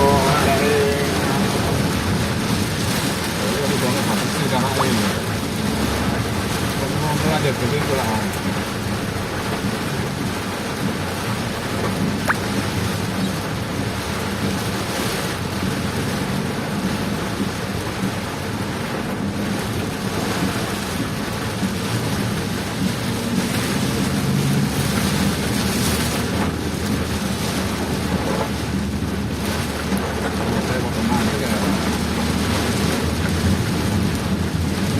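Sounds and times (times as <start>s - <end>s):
heavy rain: 0.0s - 34.9s
vehicle engine rumble: 0.0s - 34.9s.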